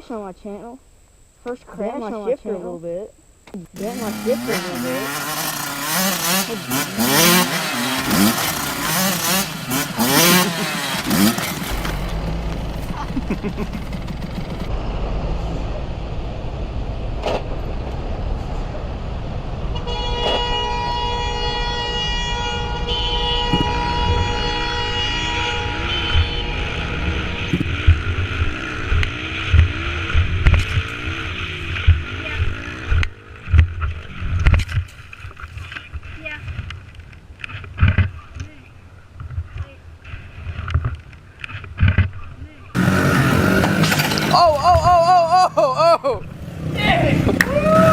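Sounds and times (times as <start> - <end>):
motorcycle engines revving: 3.8 - 38.5, 42.7 - 47.9.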